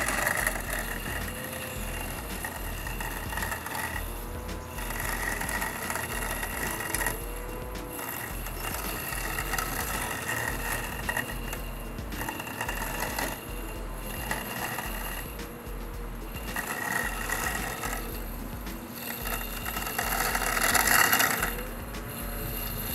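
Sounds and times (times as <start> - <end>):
robotic lawn mower whirring: 0.0 - 22.9.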